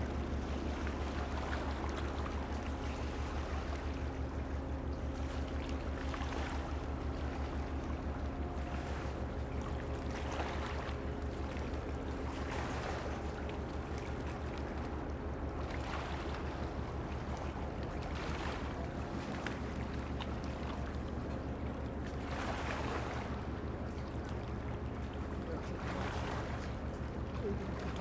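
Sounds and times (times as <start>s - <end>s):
ship engine droning: 0.0s - 28.0s.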